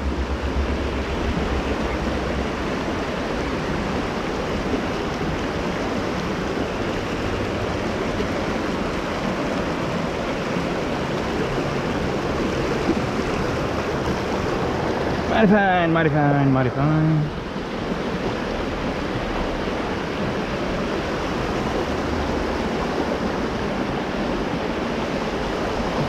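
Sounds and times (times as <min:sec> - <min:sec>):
rushing river water: 0:00.0 - 0:26.0.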